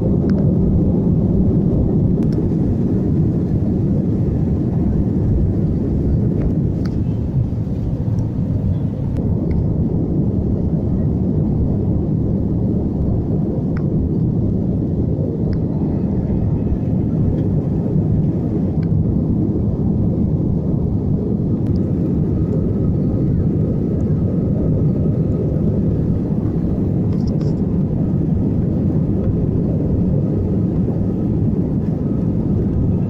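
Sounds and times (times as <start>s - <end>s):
jet airliner cabin rumble: 0.0s - 33.0s.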